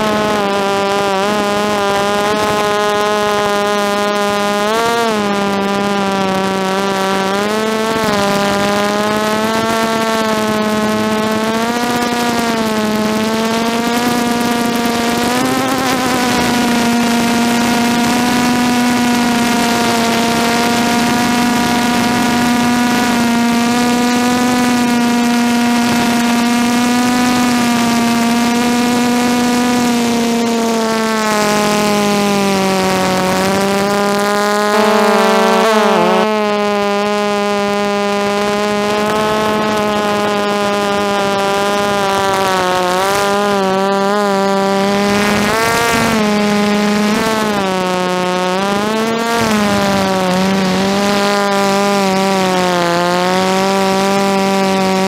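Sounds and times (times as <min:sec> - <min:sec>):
quadcopter propellers whining: 0:00.0 - 0:55.0.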